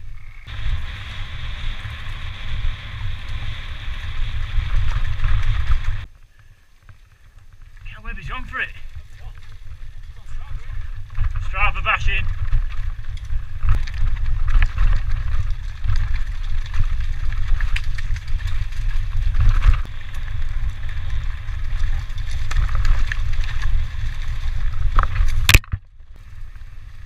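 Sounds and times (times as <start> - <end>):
bike tyres over rocks: 0.0 - 27.0
wind buffeting microphone: 0.2 - 6.1, 7.5 - 25.6.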